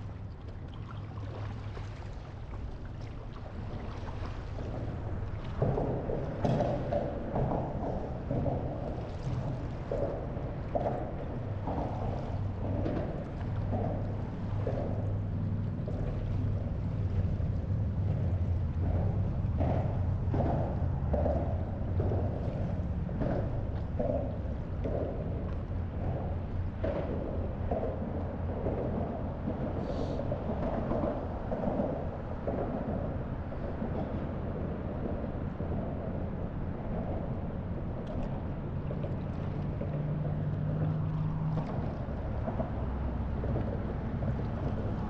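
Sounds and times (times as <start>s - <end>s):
small waves lapping against paddleboard: 0.0s - 45.0s
steady low rumble: 0.0s - 45.0s.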